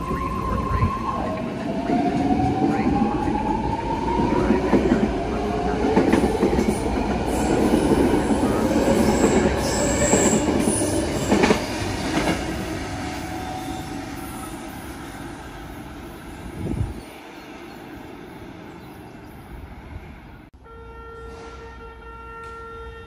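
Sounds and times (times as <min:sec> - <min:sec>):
train running on rails: 0:00.0 - 0:23.0.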